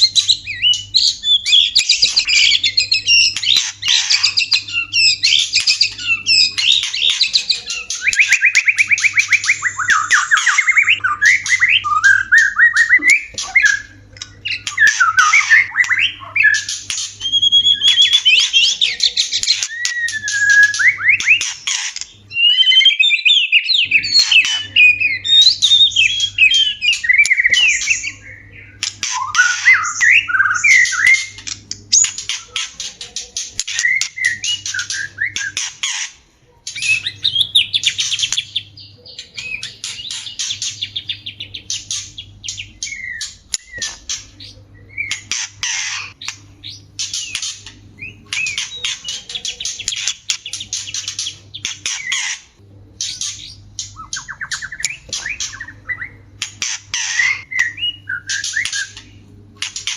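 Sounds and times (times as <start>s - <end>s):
bird song with whistles and trills: 0.0s - 36.1s, 36.7s - 59.9s.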